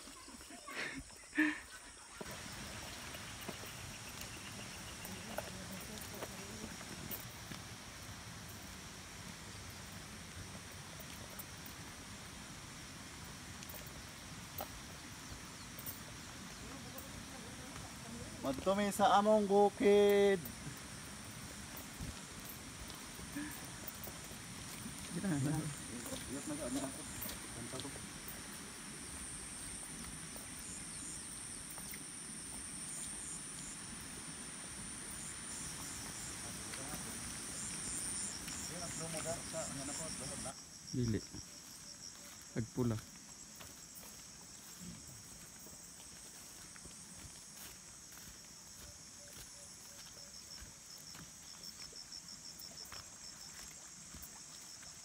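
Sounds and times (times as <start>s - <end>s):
insect chirping in pulses: 0.0s - 55.0s
insect high-pitched buzz: 0.0s - 55.0s.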